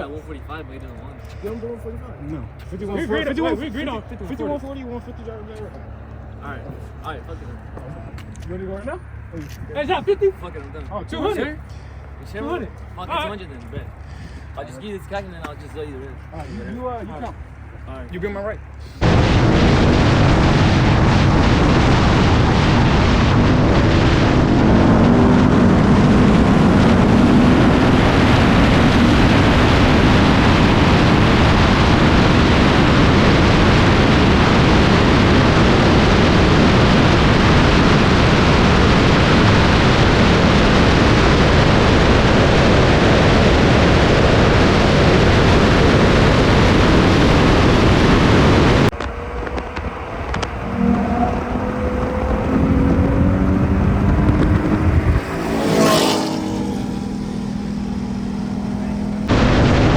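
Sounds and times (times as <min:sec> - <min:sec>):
car engine: 0:00.0 - 0:59.9
wind and road noise: 0:00.0 - 0:59.9.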